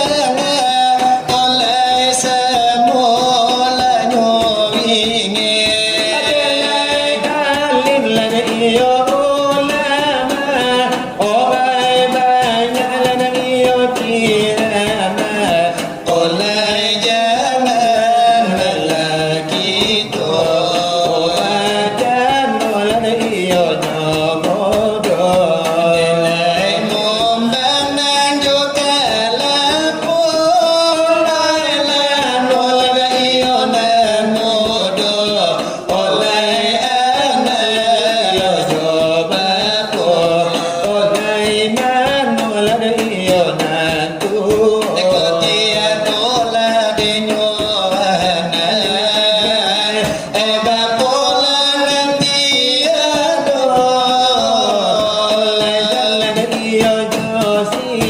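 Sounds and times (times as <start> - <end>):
voices singing devotional chant: 0.0 - 58.0.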